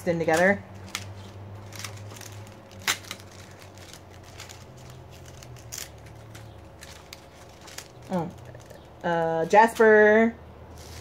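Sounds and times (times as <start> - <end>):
low steady hum: 0.0 - 11.0
plastic bags crinkling: 0.1 - 10.0, 10.7 - 11.0.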